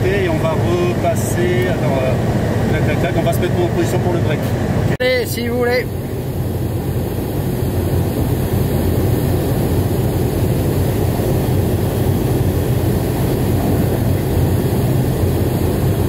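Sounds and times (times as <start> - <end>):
aircraft engine drone: 0.0 - 16.0
rushing air: 0.0 - 16.0.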